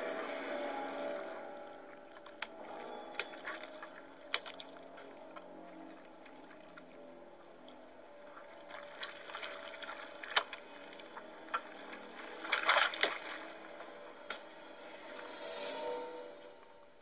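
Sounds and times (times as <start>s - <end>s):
faint low drone: 0.0s - 17.0s.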